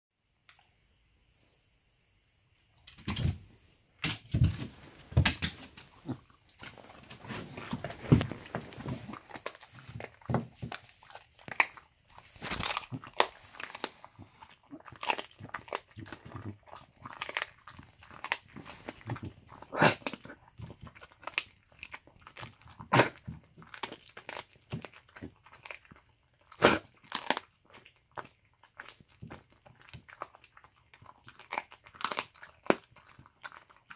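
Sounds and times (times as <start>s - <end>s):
dog crunching and chewing: 4.0s - 33.9s.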